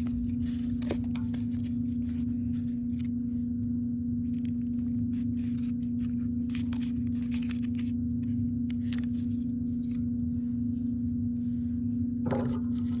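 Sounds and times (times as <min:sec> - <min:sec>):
paper rustle: 0:00.0 - 0:03.4, 0:04.2 - 0:11.6
low hum with rumble: 0:00.0 - 0:13.0.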